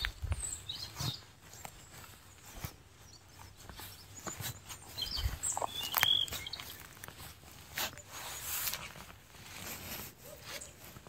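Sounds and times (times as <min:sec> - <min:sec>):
footsteps through dry leaves: 0:00.0 - 0:11.0.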